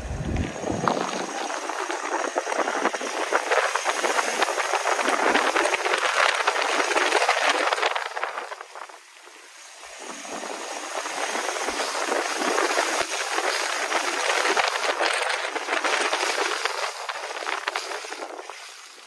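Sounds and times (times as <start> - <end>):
rushing air: 0.0 - 18.7
water spray: 0.6 - 19.0
tyres hissing through wet slush: 0.8 - 19.0.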